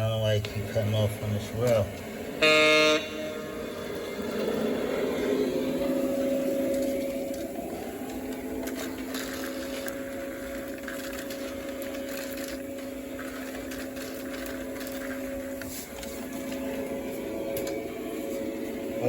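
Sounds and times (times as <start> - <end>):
model train motor hum: 0.0 - 19.0
wheels clicking on track: 0.0 - 19.0.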